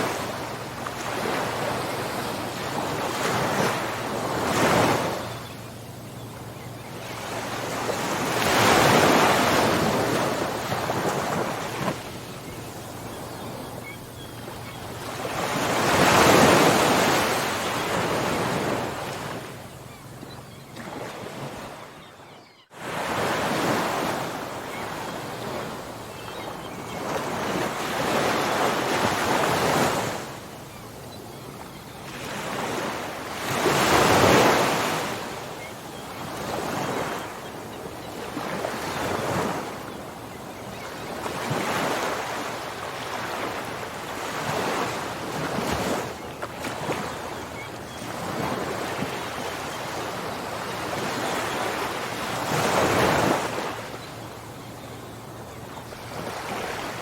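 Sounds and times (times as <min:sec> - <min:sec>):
ocean waves breaking: 0:00.0 - 0:22.0, 0:22.8 - 0:57.0.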